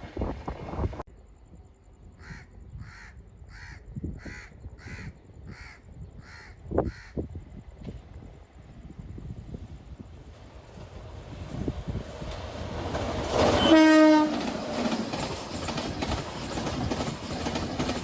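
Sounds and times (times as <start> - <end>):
train noise: 0.0 - 4.1, 4.7 - 18.0.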